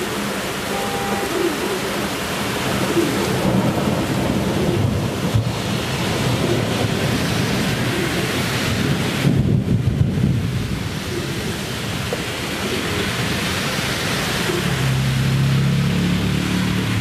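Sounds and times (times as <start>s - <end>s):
fountain spray: 0.0s - 17.0s
heavy rain: 0.0s - 17.0s.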